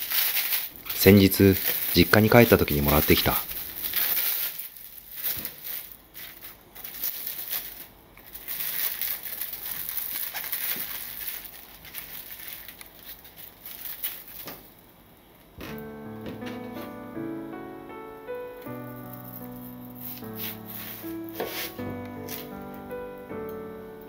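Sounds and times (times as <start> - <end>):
plastic cling wrap crinkling: 0.0 - 17.0, 18.4 - 23.0.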